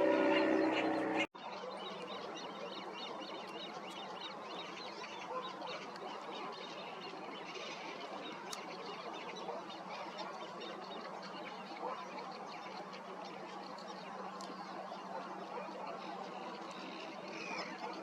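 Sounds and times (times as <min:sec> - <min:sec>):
waterbirds calling: 0:00.0 - 0:18.0.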